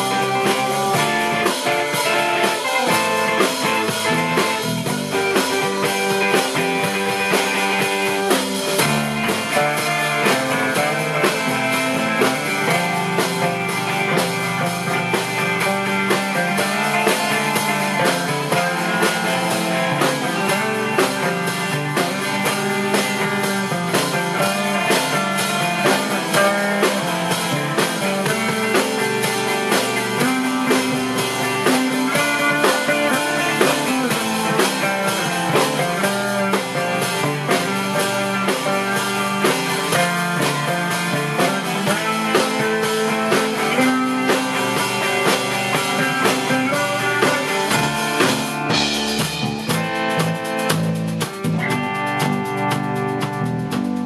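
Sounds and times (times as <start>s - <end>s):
rock band playing instrumental: 0.0s - 54.0s.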